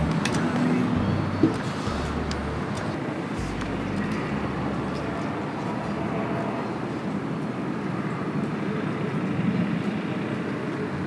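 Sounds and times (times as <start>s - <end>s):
steady rushing background noise: 0.0s - 11.0s.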